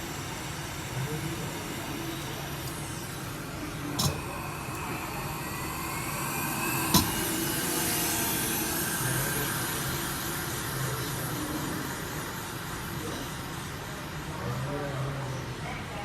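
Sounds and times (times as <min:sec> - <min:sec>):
hot air blower hissing: 0:00.0 - 0:15.9.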